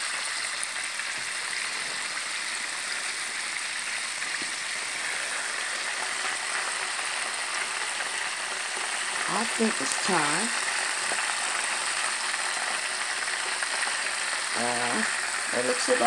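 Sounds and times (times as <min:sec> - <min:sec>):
oil bubbling and sizzling: 0:00.0 - 0:16.0.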